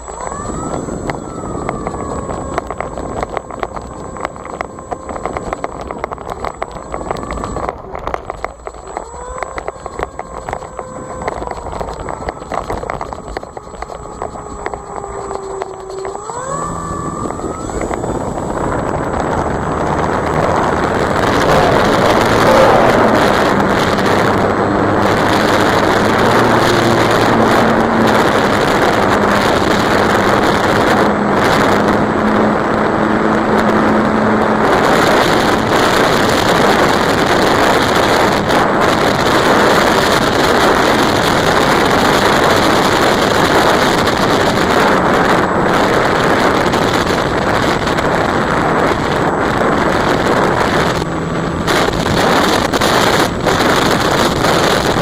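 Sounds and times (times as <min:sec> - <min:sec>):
electric motor and propeller: 0:00.0 - 0:55.0
wind rushing over microphone: 0:00.0 - 0:55.0.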